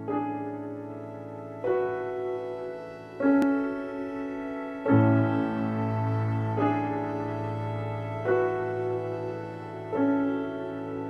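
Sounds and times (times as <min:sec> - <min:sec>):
gentle piano chords: 0:00.0 - 0:11.0.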